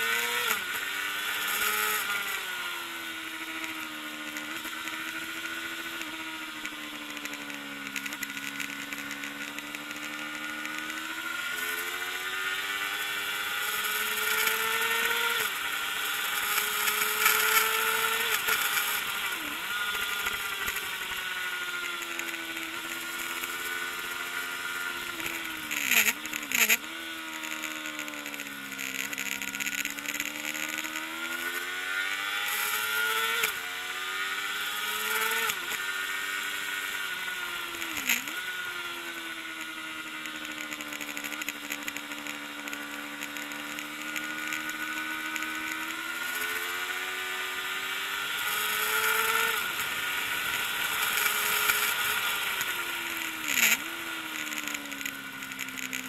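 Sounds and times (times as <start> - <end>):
race motorcycle engine revving: 0.0 - 56.0.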